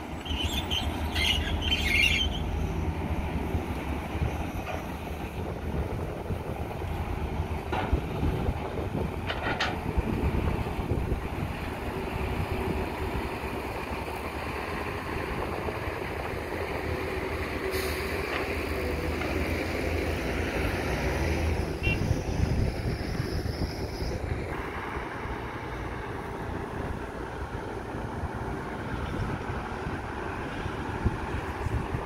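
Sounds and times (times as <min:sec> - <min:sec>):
diesel engines rumbling: 0:00.0 - 0:32.0.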